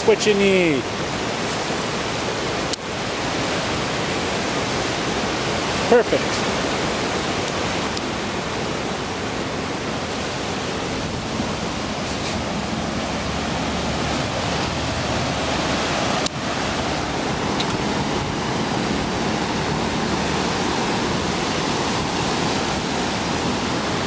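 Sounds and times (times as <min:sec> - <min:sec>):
ocean surf breaking on shore: 0:00.0 - 0:24.0.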